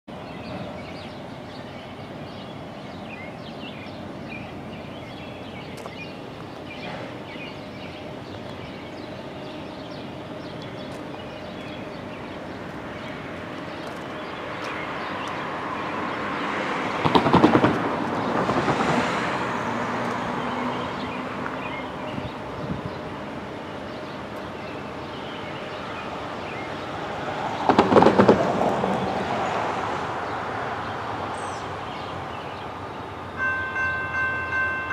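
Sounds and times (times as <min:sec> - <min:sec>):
birds chirping: 0:00.1 - 0:27.7, 0:29.0 - 0:34.9
freight train rumble: 0:00.1 - 0:34.9.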